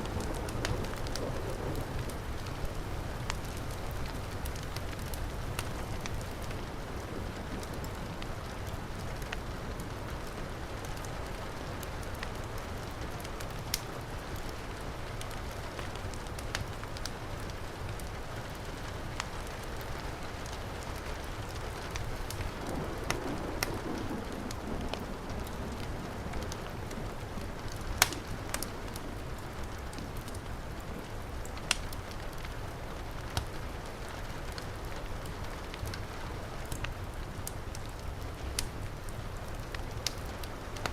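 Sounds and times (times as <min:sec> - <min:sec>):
heavy rain falling: 0:00.0 - 0:40.9
wood fire crackling and popping: 0:00.0 - 0:40.9.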